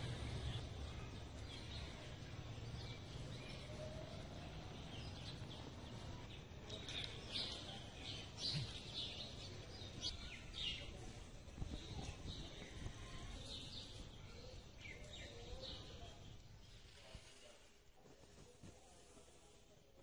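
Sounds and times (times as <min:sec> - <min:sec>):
small birds chirping: 0:00.0 - 0:19.4
faint background noise: 0:00.0 - 0:20.0.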